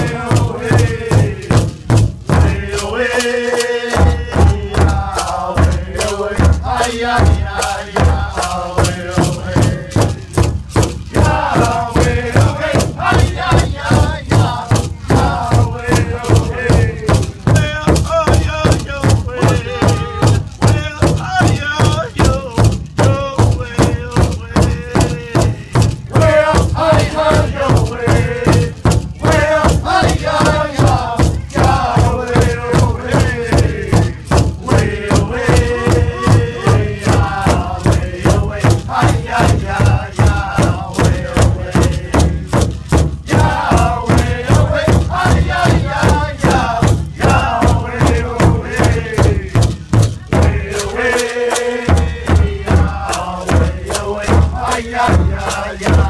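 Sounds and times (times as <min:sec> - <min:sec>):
large hide drum beating: 0:00.0 - 0:56.0
men singing in unison: 0:00.0 - 0:56.0.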